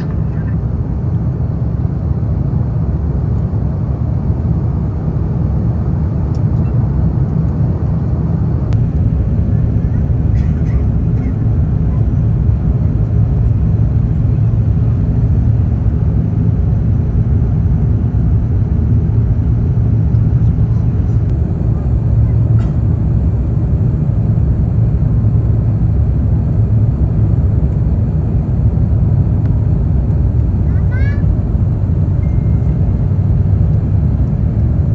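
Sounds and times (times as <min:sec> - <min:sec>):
aircraft cabin engine drone: 0:00.0 - 0:34.9.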